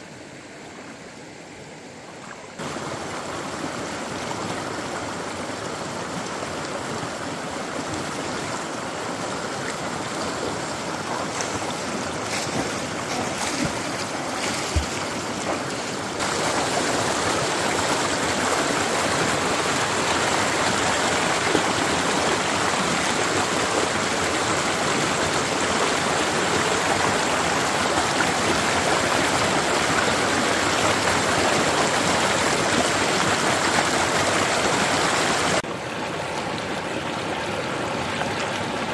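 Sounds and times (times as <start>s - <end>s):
stream rushing over stones: 2.0s - 38.9s.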